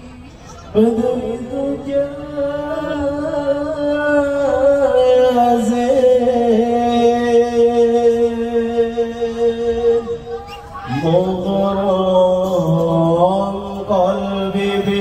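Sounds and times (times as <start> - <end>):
man singing: 0.6 - 15.0.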